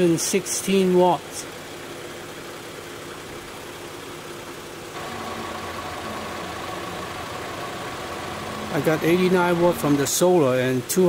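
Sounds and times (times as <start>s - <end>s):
car engine idling: 0.0s - 11.0s
thin steady whine: 0.0s - 11.0s.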